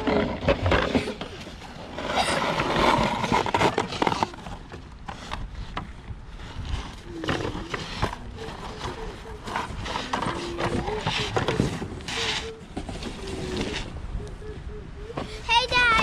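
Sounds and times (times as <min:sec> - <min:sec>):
plastic toy trucks scraping in snow: 0:00.0 - 0:14.0.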